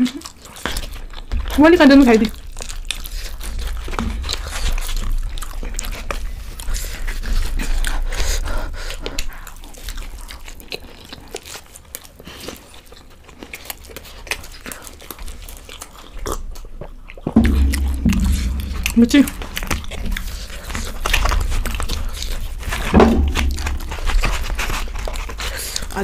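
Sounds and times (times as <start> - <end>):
chewing and mouth clicks: 0.0 - 26.0.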